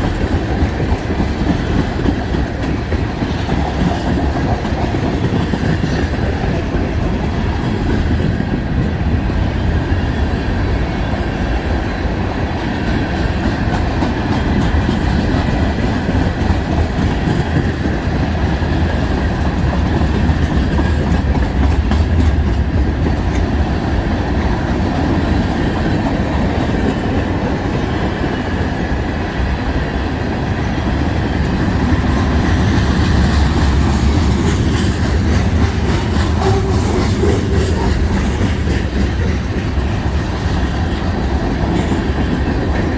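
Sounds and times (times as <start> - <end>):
wheels clacking over rail joints: 0.0 - 10.3, 12.5 - 42.9
freight train rumbling past: 0.0 - 42.9.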